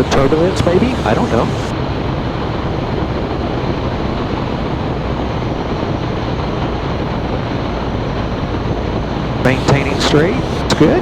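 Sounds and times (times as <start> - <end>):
aircraft engine droning: 0.0 - 11.0
airflow and wind noise: 0.0 - 11.0.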